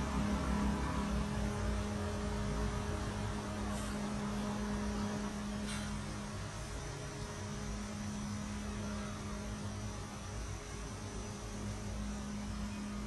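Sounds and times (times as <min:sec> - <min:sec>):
constant hiss: 0:00.0 - 0:13.0
steady low hum: 0:00.0 - 0:13.0.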